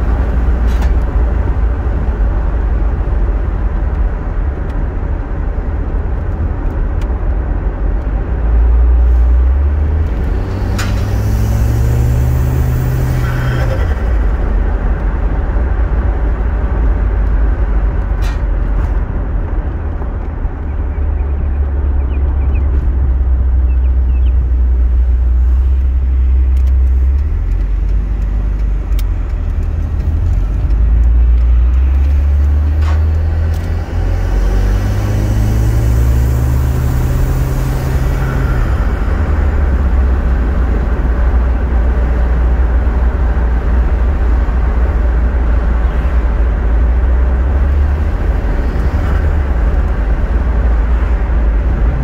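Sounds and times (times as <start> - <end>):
car engine accelerating: 0.0 - 52.0
road noise inside car: 0.0 - 52.0.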